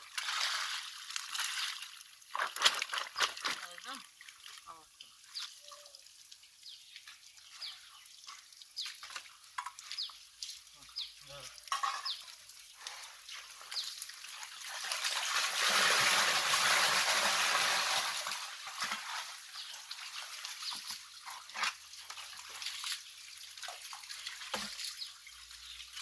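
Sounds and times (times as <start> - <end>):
muddy water sloshing and splashing: 0.0 - 5.7, 7.0 - 26.0
water dripping: 0.0 - 26.0.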